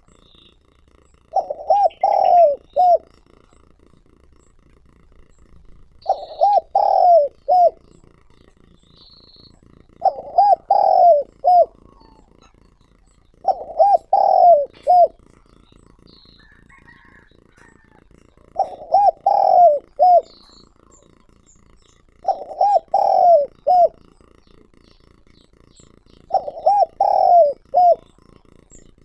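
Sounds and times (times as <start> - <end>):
dove cooing: 0.0 - 29.0
small birds chirping: 0.0 - 29.0.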